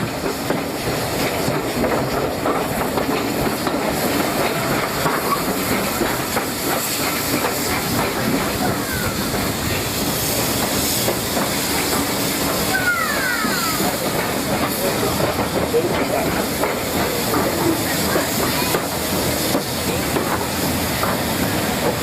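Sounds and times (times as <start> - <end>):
steam hissing: 0.0 - 22.0
wheels clattering on rails: 0.0 - 22.0.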